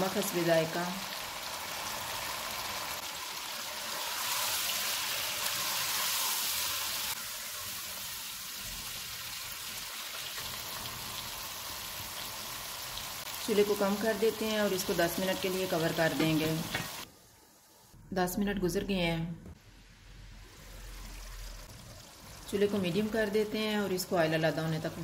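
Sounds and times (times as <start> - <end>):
food sizzling in a wok: 0.0 - 17.9, 19.6 - 25.0.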